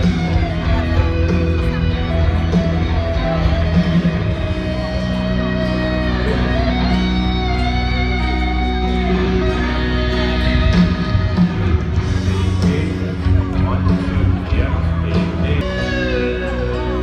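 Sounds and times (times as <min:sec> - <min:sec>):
electric guitar holding long notes: 0:00.0 - 0:17.0
heavy bass: 0:00.0 - 0:17.0.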